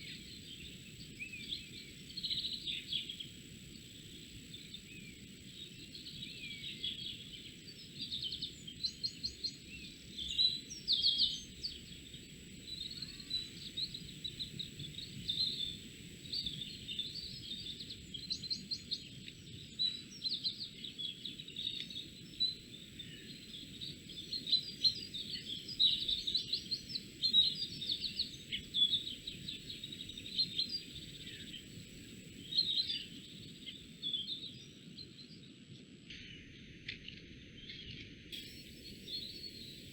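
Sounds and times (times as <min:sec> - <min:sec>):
songbirds chirping and trilling: 0:00.0 - 0:36.5, 0:37.6 - 0:39.9.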